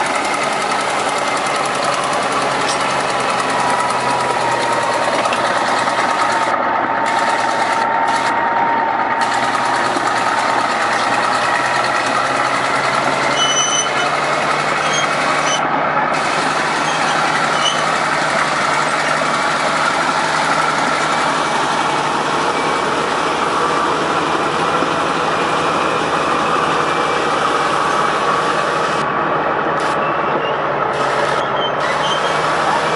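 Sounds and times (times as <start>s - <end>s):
heavy diesel machinery running: 0.0s - 32.9s.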